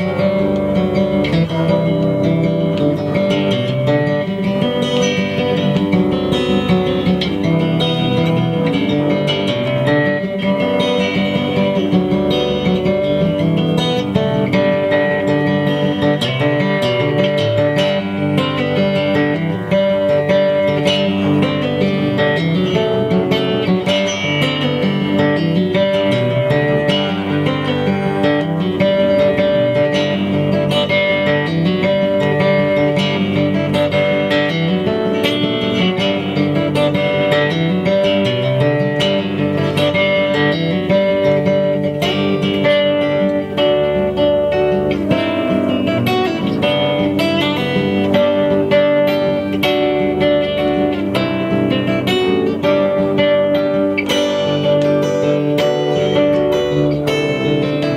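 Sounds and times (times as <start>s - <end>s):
acoustic guitar picked and strummed: 0.0s - 57.9s.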